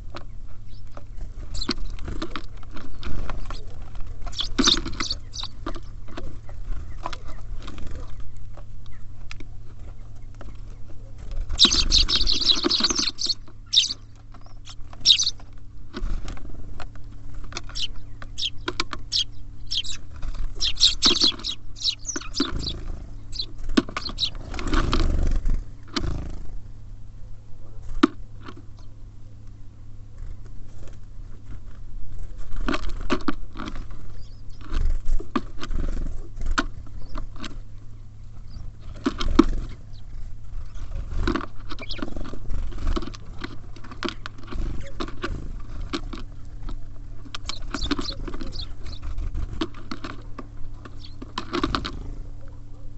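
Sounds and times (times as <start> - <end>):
birds pecking at a feeder: 0.0 - 26.6, 27.8 - 52.9.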